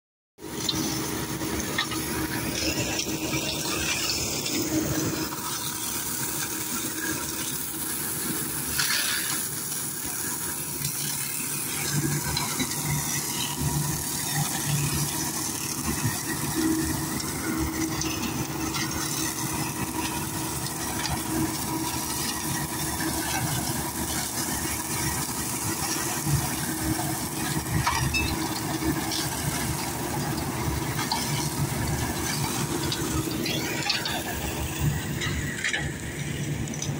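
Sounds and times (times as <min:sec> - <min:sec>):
mulcher shredding grass: 0:00.4 - 0:36.9
tractor diesel engine: 0:00.4 - 0:36.9.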